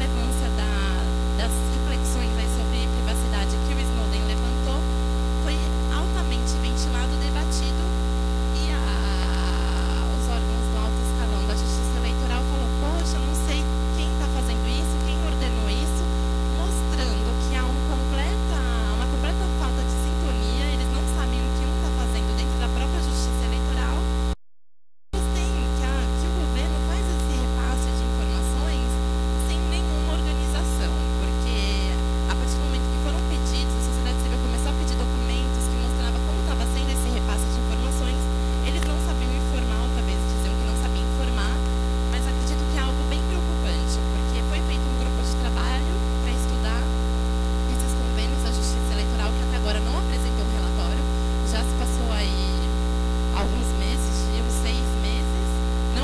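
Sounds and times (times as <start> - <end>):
electrical mains hum: 0.0 - 24.4, 25.2 - 56.0.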